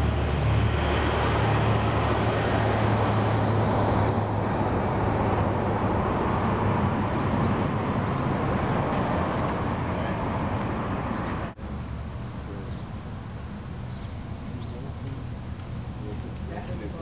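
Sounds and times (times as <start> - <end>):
low drone: 0.0 - 17.0
vehicle engine and road noise: 0.0 - 17.0.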